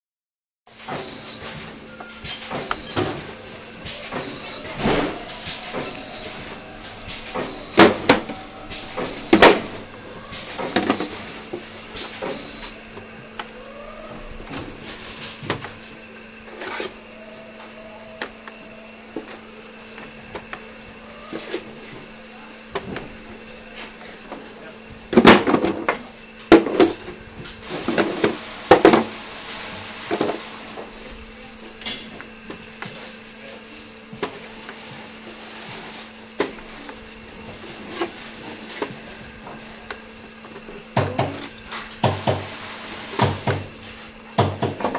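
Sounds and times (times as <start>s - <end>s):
machine line humming: 0.7s - 44.9s
faint high whine: 0.8s - 41.9s.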